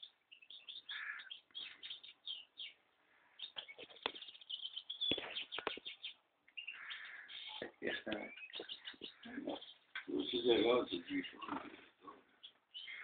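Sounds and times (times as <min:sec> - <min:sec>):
finch chirping: 0:00.0 - 0:11.5, 0:12.3 - 0:13.0.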